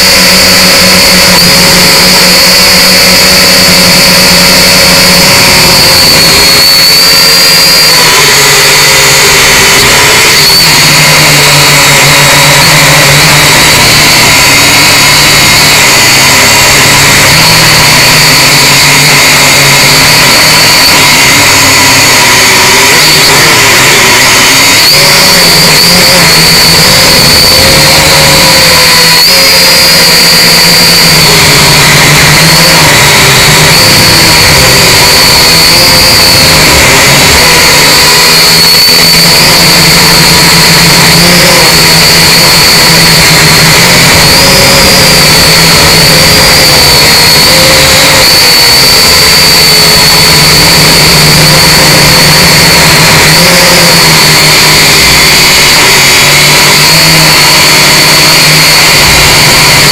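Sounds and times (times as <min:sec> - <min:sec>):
drone propellers whining: 0:00.0 - 0:59.9.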